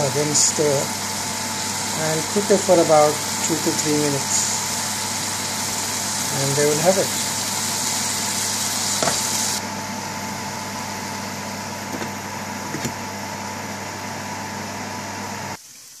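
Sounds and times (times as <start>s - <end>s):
motor hum with hiss: 0.0s - 15.7s.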